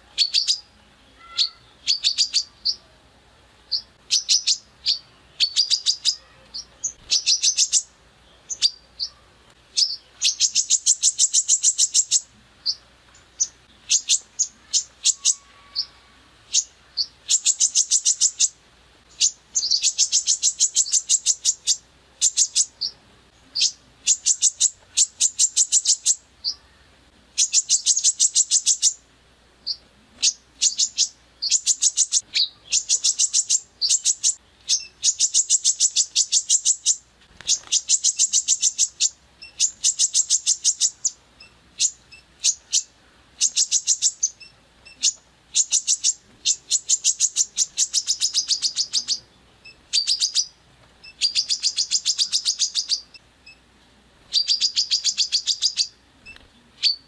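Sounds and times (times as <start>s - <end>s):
single bird chirps: 0.2s - 2.9s, 3.7s - 26.7s, 29.6s - 53.7s, 54.3s - 57.0s
songbird rattling song bursts: 3.7s - 22.9s, 27.3s - 53.7s, 54.3s - 57.0s.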